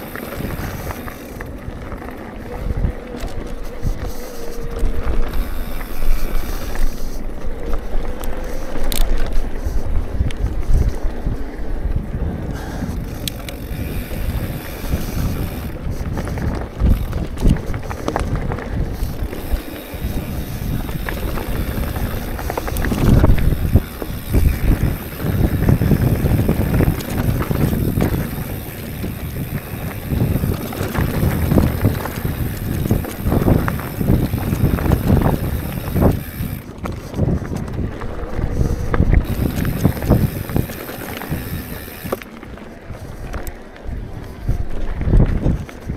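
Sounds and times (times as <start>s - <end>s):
bike knocking and rattling: 0.0s - 45.9s
wind rumbling over microphone: 0.0s - 45.9s.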